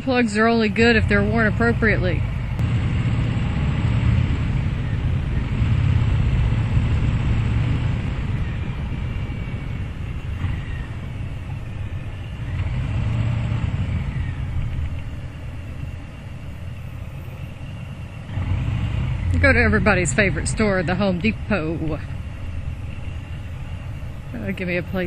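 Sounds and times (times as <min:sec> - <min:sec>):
motorcycle engine rumbling: 0:00.0 - 0:25.0
wind rush: 0:00.0 - 0:25.0.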